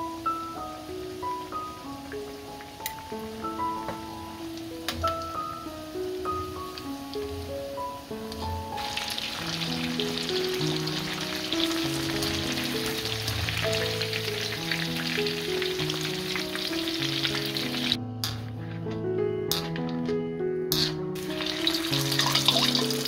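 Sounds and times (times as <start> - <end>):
cutlets deep-frying in oil: 0.0 - 18.0, 20.7 - 23.0
light background music: 0.0 - 23.0.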